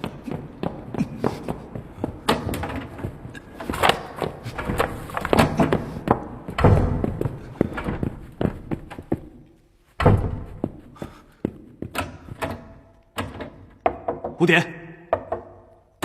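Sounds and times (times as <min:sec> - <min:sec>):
thumps and knocks: 0:00.0 - 0:09.4, 0:10.0 - 0:10.8, 0:11.8 - 0:14.5, 0:15.1 - 0:15.8.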